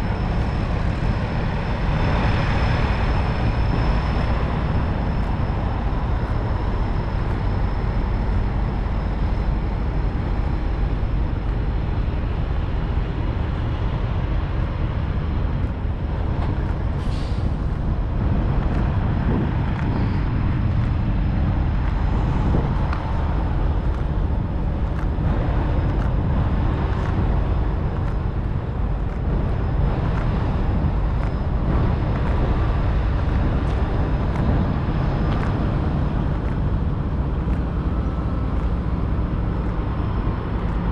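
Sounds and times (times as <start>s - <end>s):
low outdoor rumble: 0.0s - 40.9s.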